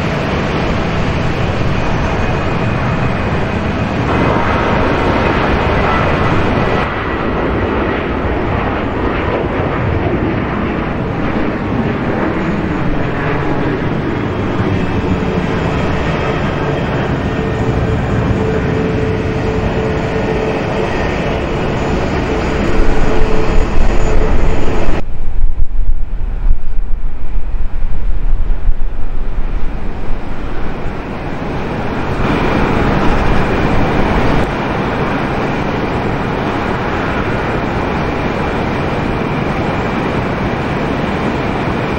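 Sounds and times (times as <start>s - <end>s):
aircraft engines rumbling: 0.0s - 41.9s.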